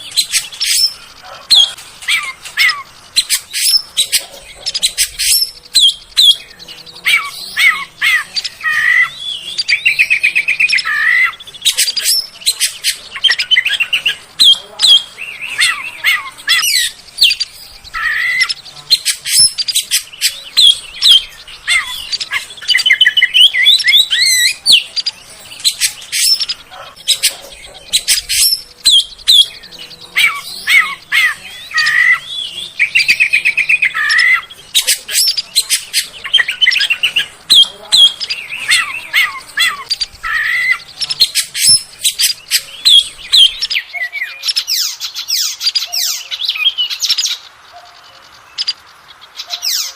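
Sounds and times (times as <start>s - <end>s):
magpie-robin singing: 0.0s - 49.9s.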